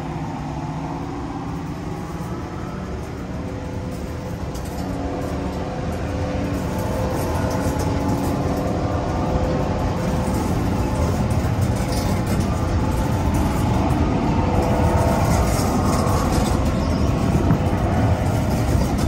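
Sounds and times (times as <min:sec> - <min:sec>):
diesel locomotive engine drone: 0:00.0 - 0:19.0
train wheels running on rails: 0:00.0 - 0:19.0.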